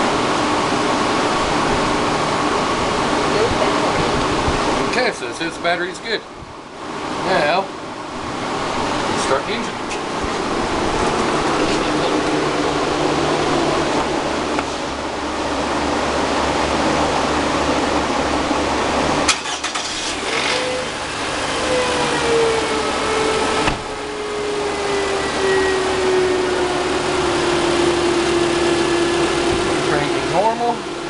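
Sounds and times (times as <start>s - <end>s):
car engine starting and running: 0.0s - 31.0s.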